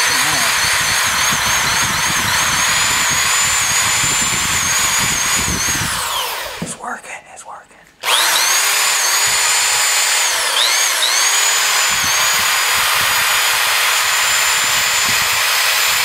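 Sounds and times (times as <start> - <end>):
power drill whining: 0.0 - 6.7, 8.0 - 16.0.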